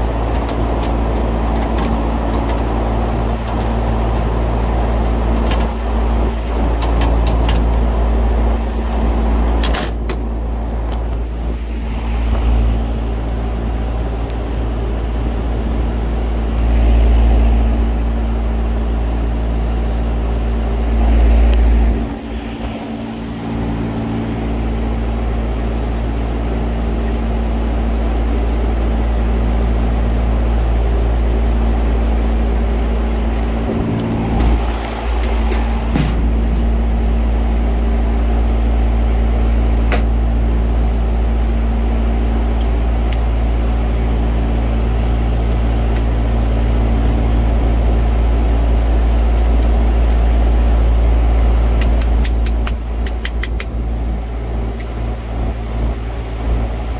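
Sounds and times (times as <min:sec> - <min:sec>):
deep rumble: 0:00.0 - 0:27.1, 0:30.3 - 0:56.9
condenser fans droning: 0:00.0 - 0:56.9
low electrical hum: 0:00.0 - 0:56.9.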